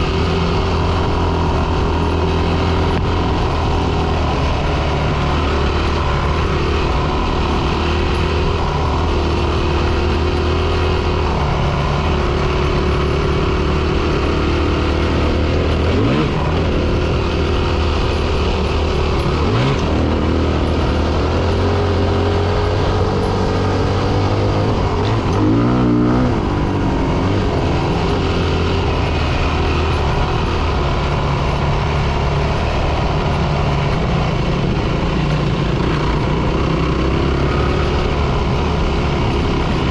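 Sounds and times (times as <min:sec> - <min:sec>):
dirt bike engine revving: 0:00.0 - 0:34.2.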